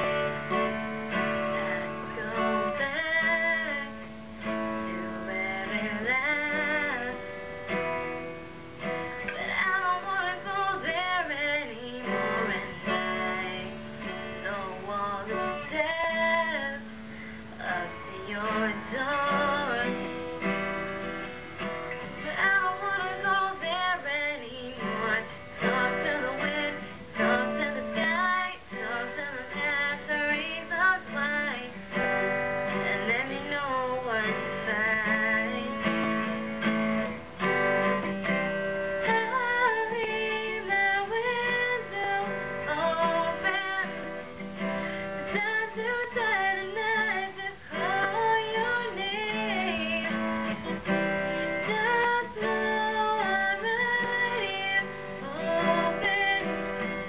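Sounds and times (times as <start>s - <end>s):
woman singing a ballad: 0.0s - 8.0s, 8.8s - 36.8s, 37.4s - 57.0s
strummed acoustic guitar: 0.0s - 57.0s.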